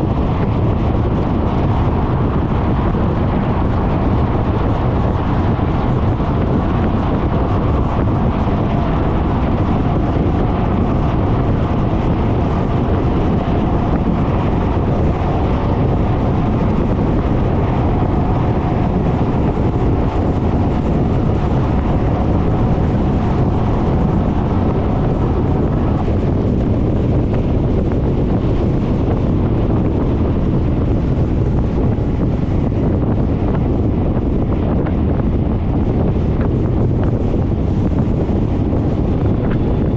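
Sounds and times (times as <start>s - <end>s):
scooter engine and road noise: 0.0s - 39.9s
wind rush over microphone: 0.0s - 39.9s.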